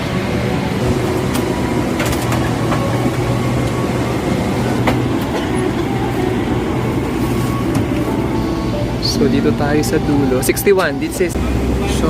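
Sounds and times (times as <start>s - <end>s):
airliner cabin ventilation hum: 0.0s - 12.0s.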